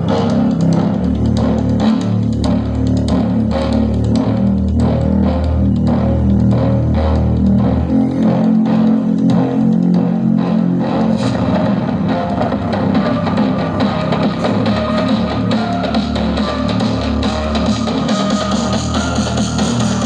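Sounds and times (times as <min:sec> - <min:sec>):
song with heavy bass through speaker: 0:00.0 - 0:20.0.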